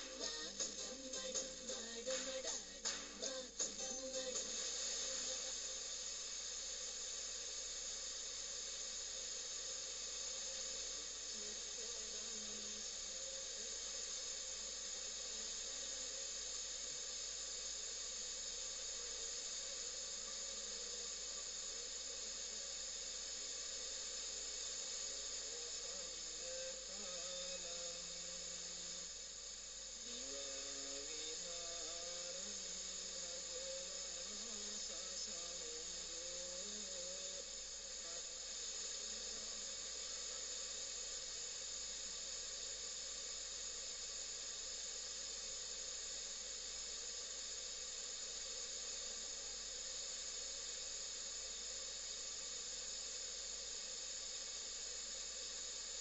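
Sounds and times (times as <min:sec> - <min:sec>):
faint radio station audio: 0:00.0 - 0:56.0
radio static hiss: 0:00.0 - 0:56.0.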